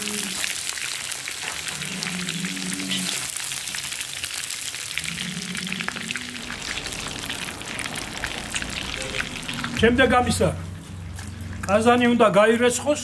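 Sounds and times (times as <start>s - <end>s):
liver sizzling in hot oil: 0.0s - 11.5s.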